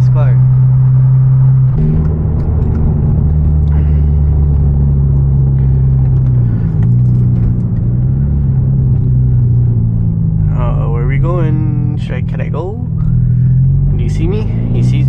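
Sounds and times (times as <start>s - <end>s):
car engine running while driving: 0.0s - 15.0s.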